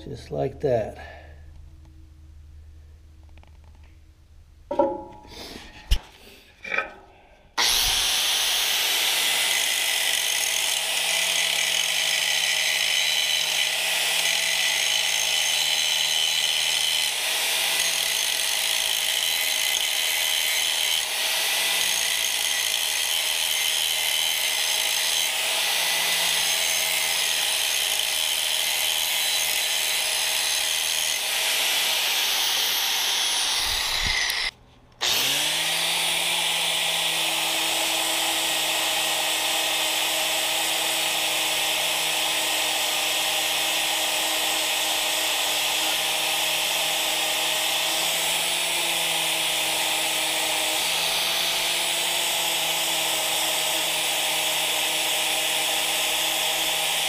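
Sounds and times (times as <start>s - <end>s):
angle grinder grinding steel: 7.6s - 57.0s.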